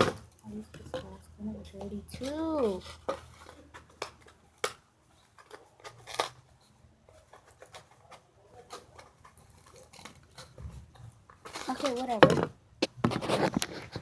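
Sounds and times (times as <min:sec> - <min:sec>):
objects being handled: 0:00.0 - 0:14.0.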